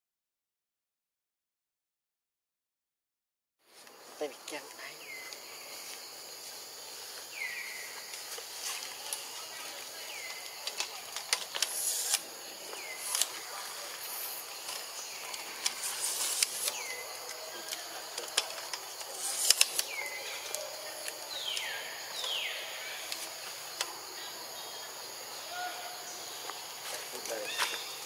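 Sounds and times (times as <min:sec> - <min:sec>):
high insect drone: 0:03.7 - 0:28.0.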